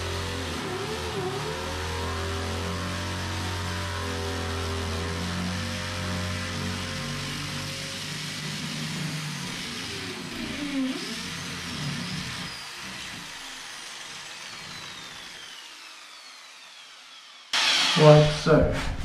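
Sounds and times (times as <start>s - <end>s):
electric drill grinding into tile: 0.0s - 18.2s.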